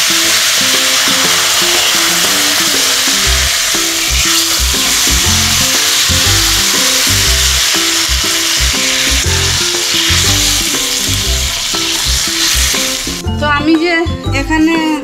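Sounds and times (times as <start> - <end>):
food sizzling in hot oil: 0.0 - 13.2
light background music: 0.0 - 15.0.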